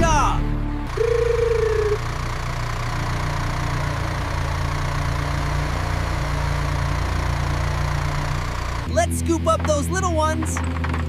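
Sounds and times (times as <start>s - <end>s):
heavy machine engine idling: 0.9s - 11.0s.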